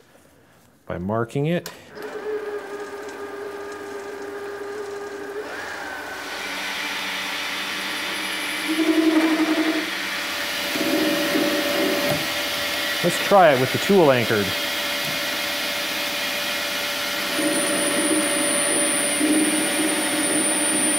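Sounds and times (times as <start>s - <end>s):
metal lathe whining: 2.0s - 20.9s.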